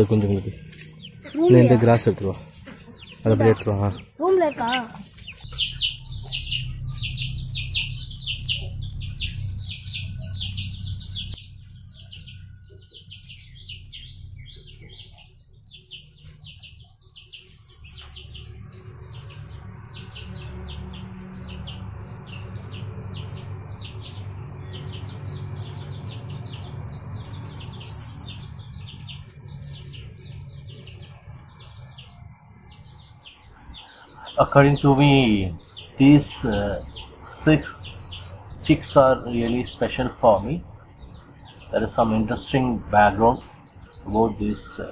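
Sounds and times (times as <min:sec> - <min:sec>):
chicks peeping: 0:00.0 - 0:44.9
steady low hum: 0:00.0 - 0:44.9.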